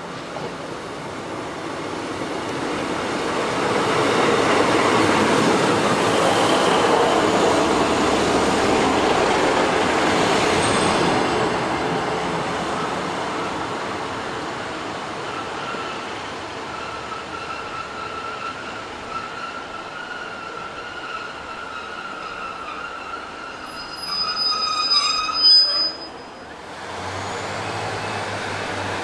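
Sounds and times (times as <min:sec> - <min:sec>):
train engine and wheels passing: 0:00.0 - 0:29.0.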